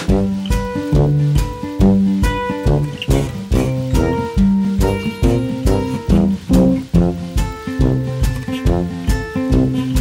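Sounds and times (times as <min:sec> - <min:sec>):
plucked string music with bass: 0:00.0 - 0:10.0.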